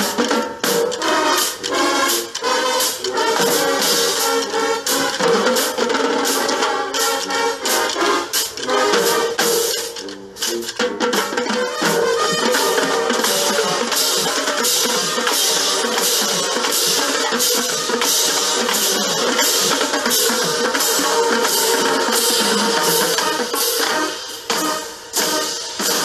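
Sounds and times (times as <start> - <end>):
marching band brass: 0.0 - 26.0
steady percussion beat: 0.0 - 26.0.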